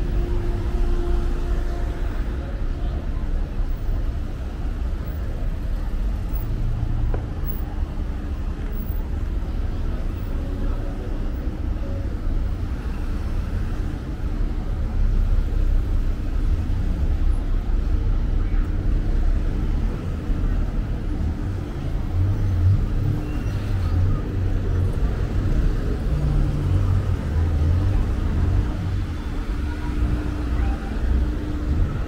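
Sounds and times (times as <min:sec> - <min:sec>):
street traffic passing: 0:00.0 - 0:32.0.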